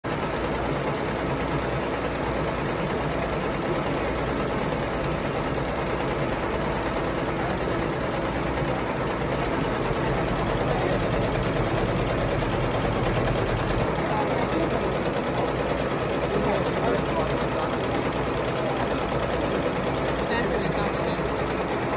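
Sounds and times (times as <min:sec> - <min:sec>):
embroidery machine stitching: 0:00.1 - 0:21.9.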